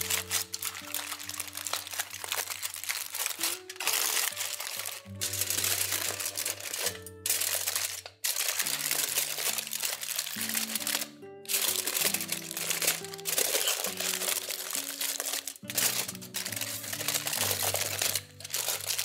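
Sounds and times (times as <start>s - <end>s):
aluminium foil crinkling: 0.0s - 19.0s
background music: 0.0s - 19.0s.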